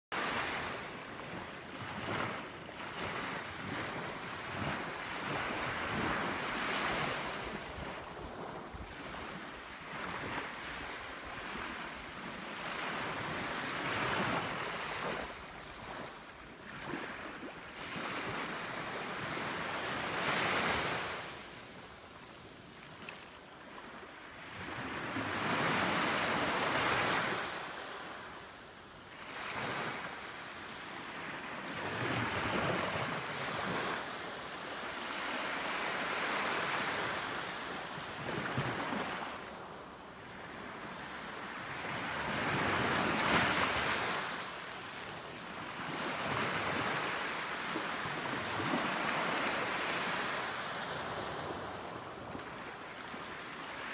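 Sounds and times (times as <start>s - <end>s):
surf waves breaking on beach: 0.1s - 53.9s.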